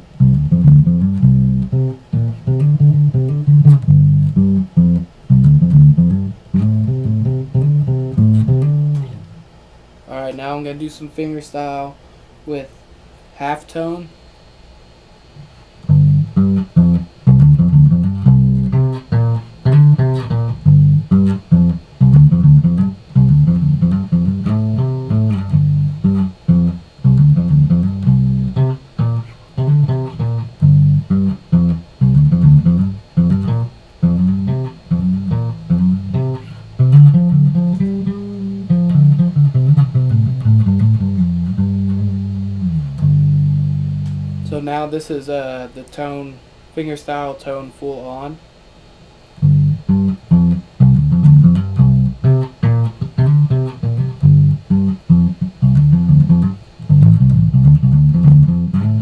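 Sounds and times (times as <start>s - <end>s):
plucked bass guitar notes: 0.0s - 9.4s, 15.8s - 44.6s, 49.4s - 59.0s.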